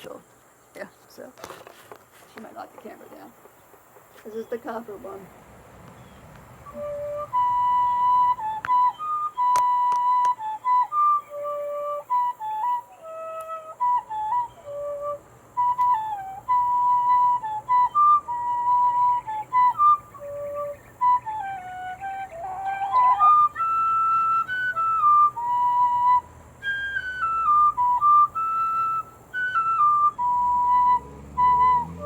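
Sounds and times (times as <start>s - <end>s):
tin whistle melody: 6.0s - 32.0s.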